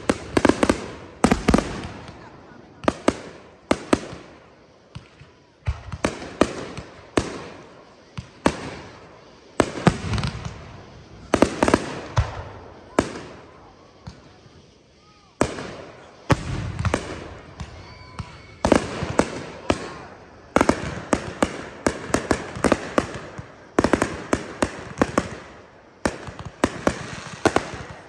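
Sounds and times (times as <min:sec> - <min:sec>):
fireworks bursting with loud bangs: 0:00.0 - 0:28.0.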